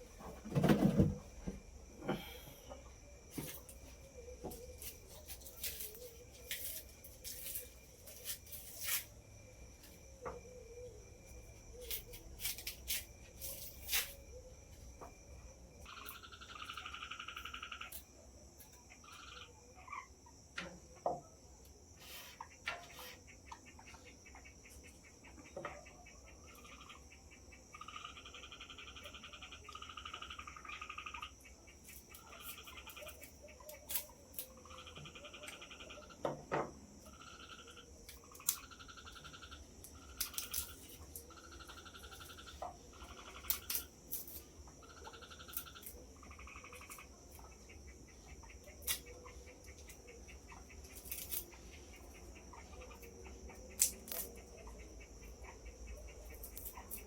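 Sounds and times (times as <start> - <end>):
crickets trilling: 0.0 - 57.0
frogs calling: 0.0 - 57.0.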